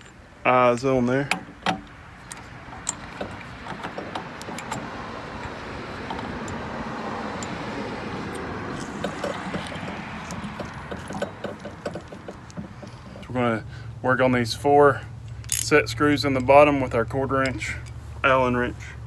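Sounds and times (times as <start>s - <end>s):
small metallic clicks: 0.0s - 13.4s, 15.2s - 18.0s
vehicle passing by: 1.8s - 19.0s.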